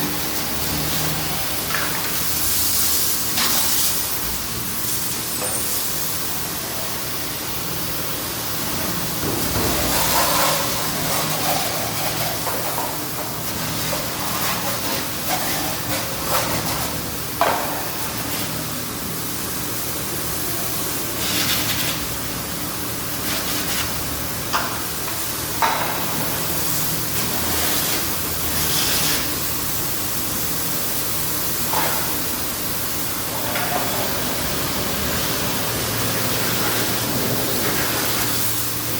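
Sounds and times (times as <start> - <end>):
water spraying onto engine: 0.0 - 38.9.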